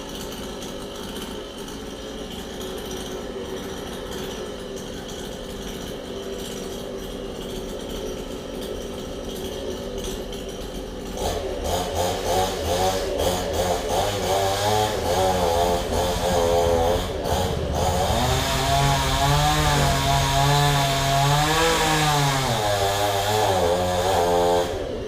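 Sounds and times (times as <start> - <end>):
chainsaw engine revving: 0.0 - 25.0.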